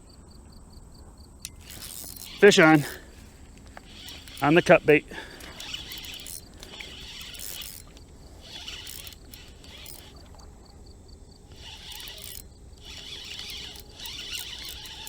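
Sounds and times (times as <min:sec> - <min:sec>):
insects buzzing: 0:00.0 - 0:15.0
quick even pulses: 0:01.4 - 0:10.4, 0:11.5 - 0:15.0.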